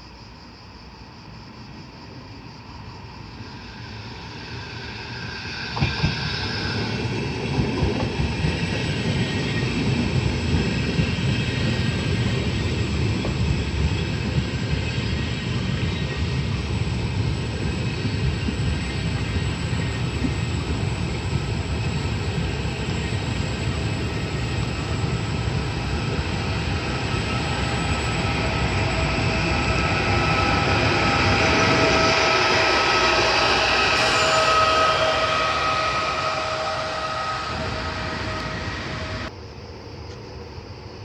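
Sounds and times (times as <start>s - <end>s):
train rumbling along track: 0.0s - 41.0s
train whine: 0.0s - 41.0s.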